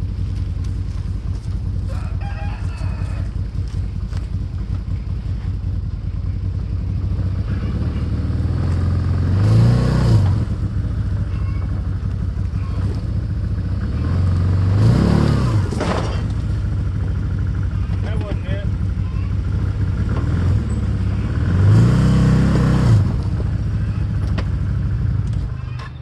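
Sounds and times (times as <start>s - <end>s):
engine idling and revving: 0.0s - 26.0s.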